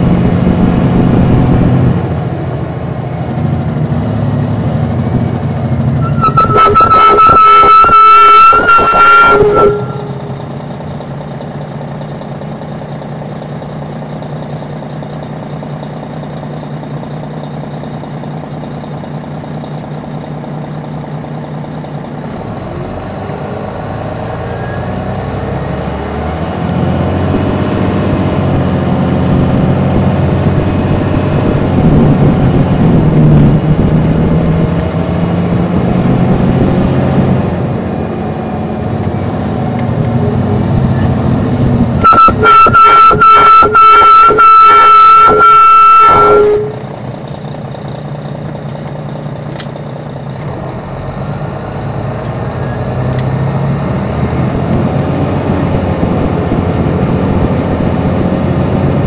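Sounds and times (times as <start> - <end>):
diesel bus engine: 0.0 - 59.0.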